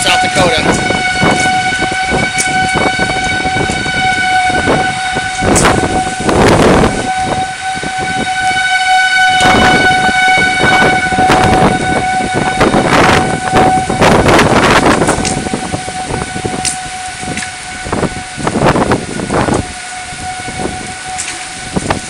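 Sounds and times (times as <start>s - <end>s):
strong wind gusting: 0.0s - 22.0s
warning siren steady high tone: 0.0s - 22.0s.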